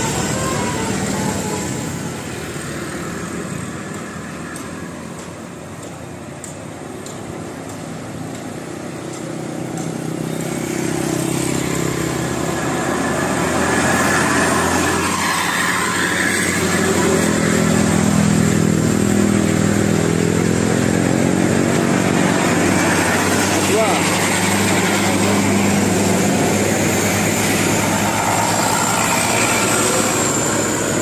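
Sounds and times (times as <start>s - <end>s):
motor vehicle engine running: 0.0s - 31.0s.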